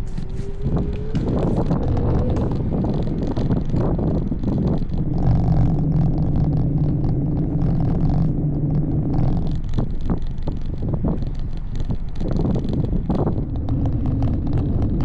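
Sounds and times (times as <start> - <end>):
vehicle engine humming: 0.0 - 15.0
wind rumbling on microphone: 0.0 - 15.0.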